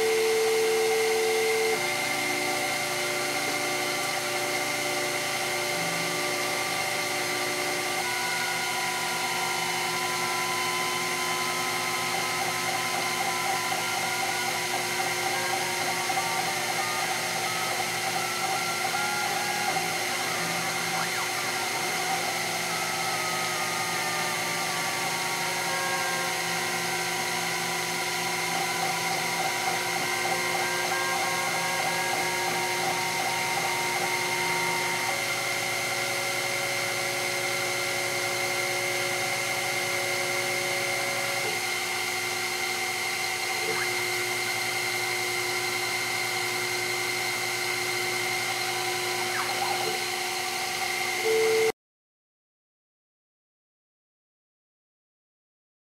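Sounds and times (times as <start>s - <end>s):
stepper motors whining: 0.0s - 51.7s
spindle motor whine: 0.0s - 51.8s.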